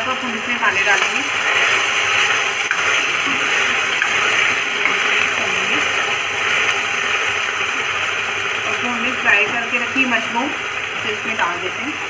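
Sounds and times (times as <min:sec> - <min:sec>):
sauce sizzling in a wok: 0:00.0 - 0:12.0.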